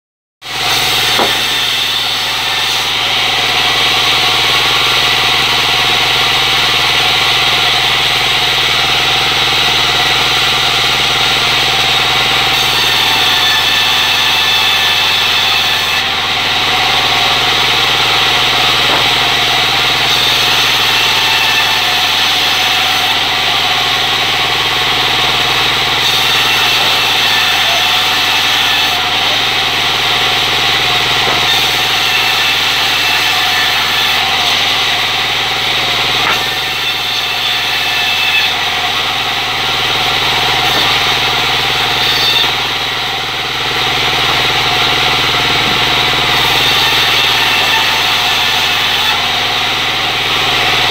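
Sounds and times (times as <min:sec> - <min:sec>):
circular saw ripping wood: 0:00.5 - 0:05.9, 0:08.7 - 0:50.9.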